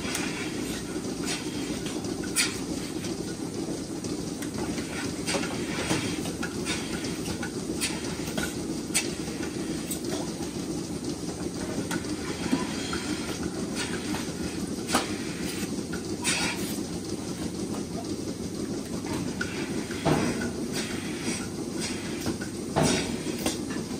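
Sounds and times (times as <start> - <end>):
milking machine hum: 0.0 - 23.9.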